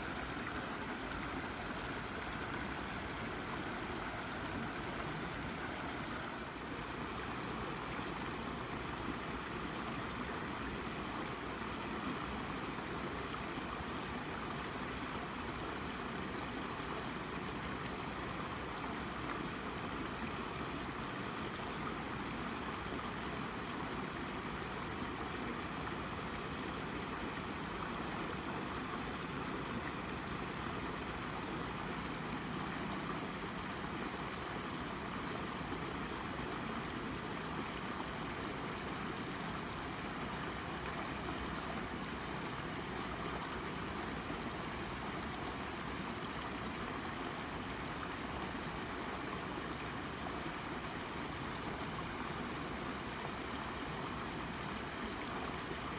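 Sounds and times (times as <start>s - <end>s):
brook babbling over rock: 0.0s - 55.9s.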